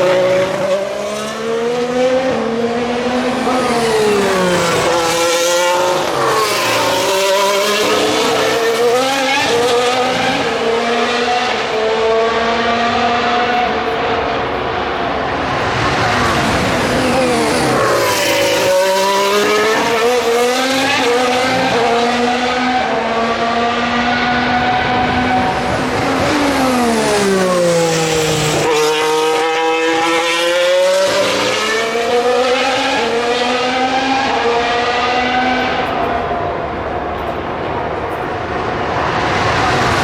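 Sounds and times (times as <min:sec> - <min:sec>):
racing car engines downshifting: 0:00.0 - 0:40.0.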